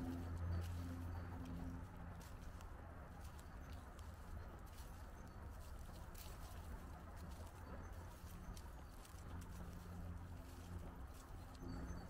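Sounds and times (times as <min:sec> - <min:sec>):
footsteps crunching on a path: 0:00.0 - 0:12.0
low steady rumble: 0:00.0 - 0:12.0.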